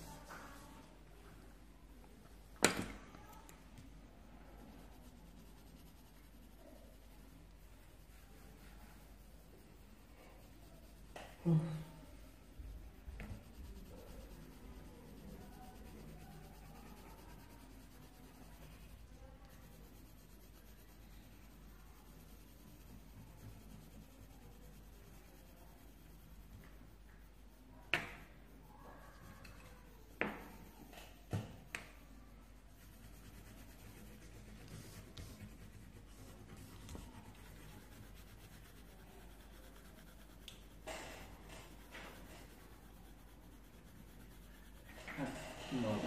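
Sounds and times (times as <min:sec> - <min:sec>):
pencil scratching on paper: 0:03.2 - 0:46.0.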